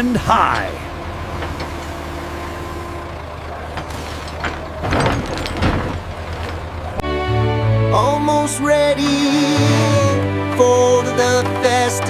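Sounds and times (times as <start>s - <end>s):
engine low hum: 0.0s - 12.0s.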